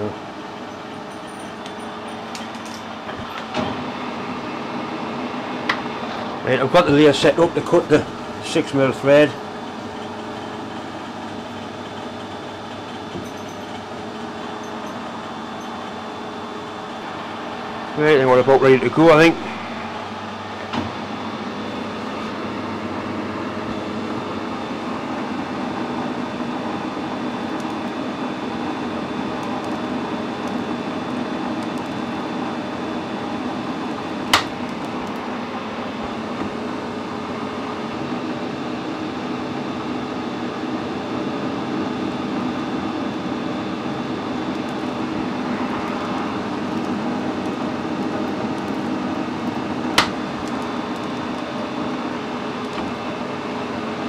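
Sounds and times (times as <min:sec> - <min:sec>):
metal lathe humming: 0:00.0 - 0:54.0.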